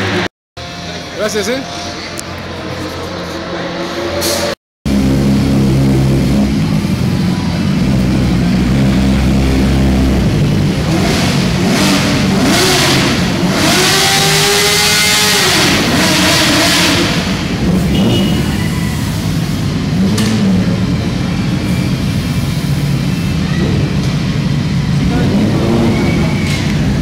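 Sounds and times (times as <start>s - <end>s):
motorcycle engines idling and revving: 0.0s - 27.0s.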